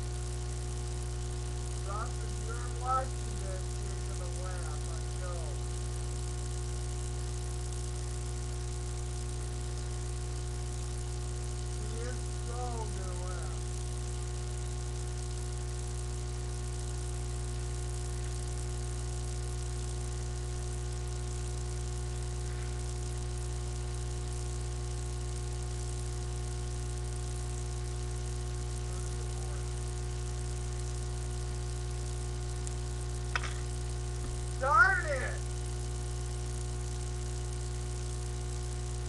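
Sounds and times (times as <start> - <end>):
constant hiss: 0.0 - 39.0
low electrical hum: 0.0 - 39.0.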